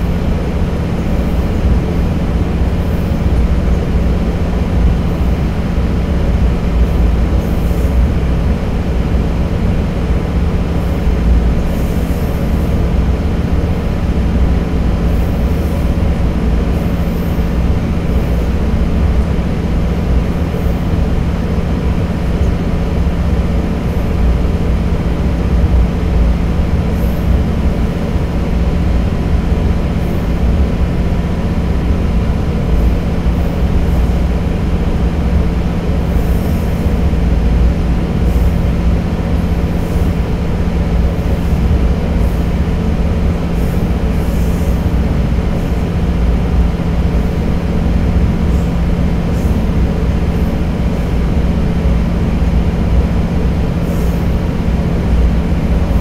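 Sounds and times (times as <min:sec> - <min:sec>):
railcar rumble on rails: 0:00.0 - 0:56.0
steady hum: 0:00.0 - 0:56.0.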